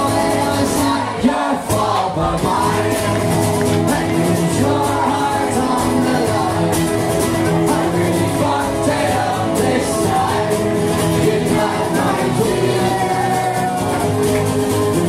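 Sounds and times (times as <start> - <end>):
man singing: 0.0 - 14.2
acoustic guitars strumming: 0.0 - 15.0.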